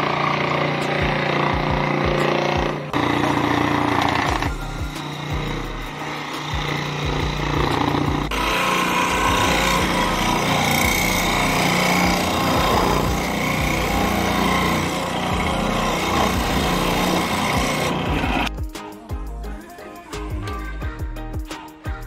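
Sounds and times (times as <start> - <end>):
scroll saw cutting wood: 0.0 - 18.5.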